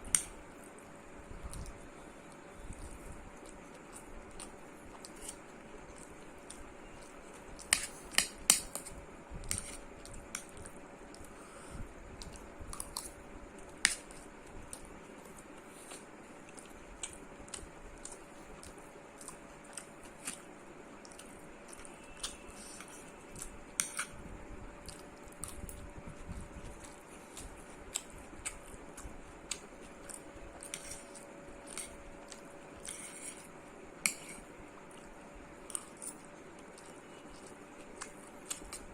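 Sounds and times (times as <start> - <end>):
faint steady hum: 0.0 - 38.9
person chewing food: 1.4 - 24.2, 24.8 - 38.9.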